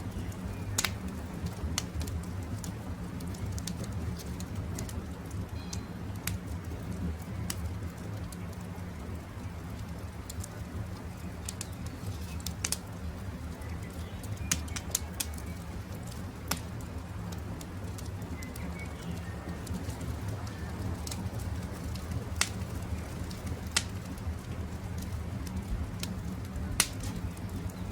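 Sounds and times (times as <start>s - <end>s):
birds chirping faintly: 0.0s - 27.9s
campfire crackling: 0.0s - 27.9s.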